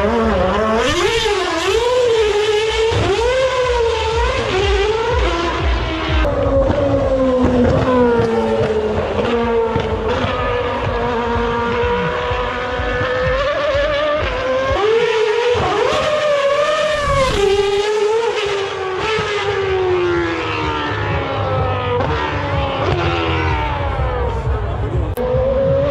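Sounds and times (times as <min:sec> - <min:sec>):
distant racing car engine revving: 0:00.0 - 0:25.9.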